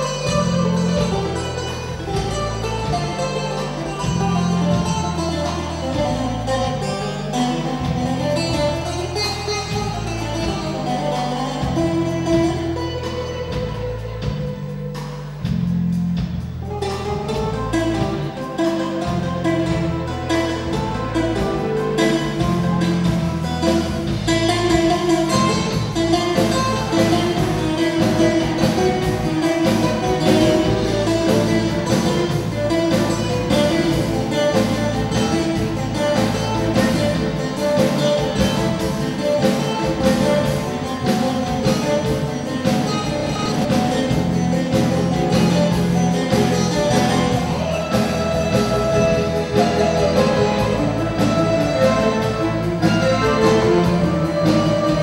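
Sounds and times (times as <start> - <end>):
bouzouki playing: 0.0 - 55.0.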